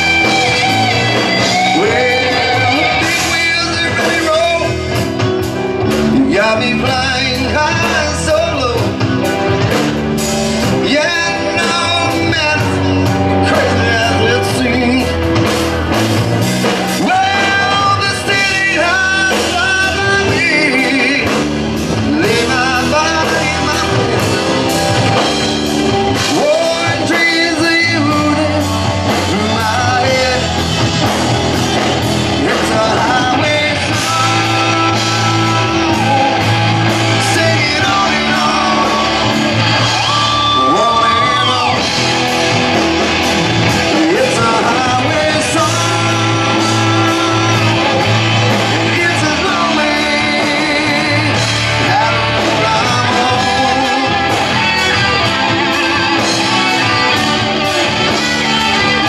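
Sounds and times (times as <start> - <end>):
rock song with lead vocal: 0.0 - 59.0.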